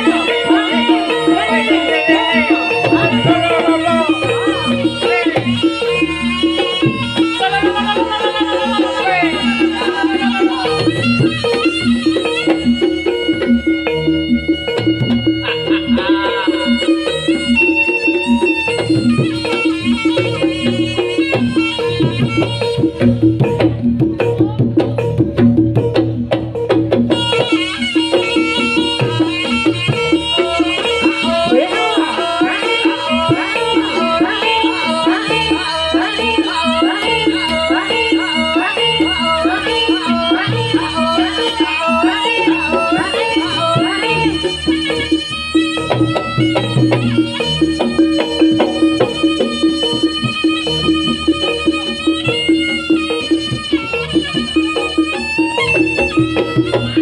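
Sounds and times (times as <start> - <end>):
reedy wind instrument melody: 0.0 - 24.8, 27.0 - 57.0
hand drums: 0.0 - 57.0.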